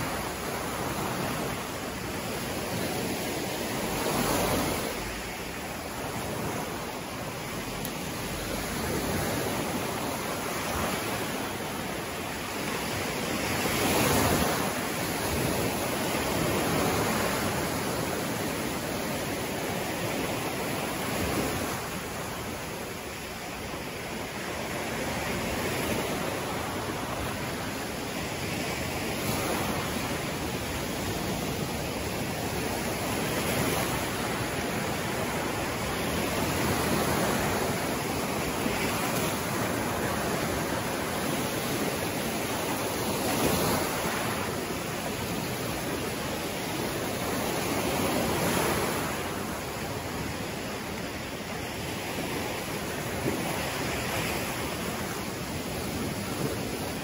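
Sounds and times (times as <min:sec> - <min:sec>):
waves breaking on sandy beach: 0:00.0 - 0:57.0.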